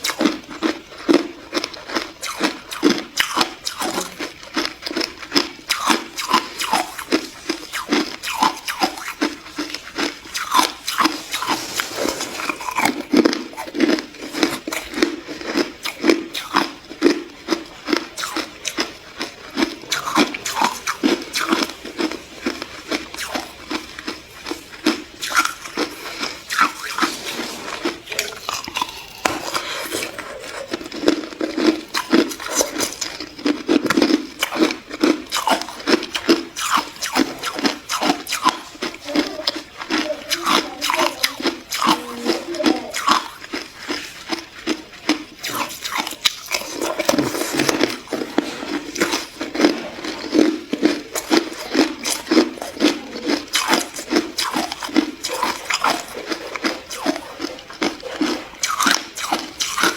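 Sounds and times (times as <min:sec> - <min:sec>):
ice being crunched and chewed: 0:00.0 - 0:59.9.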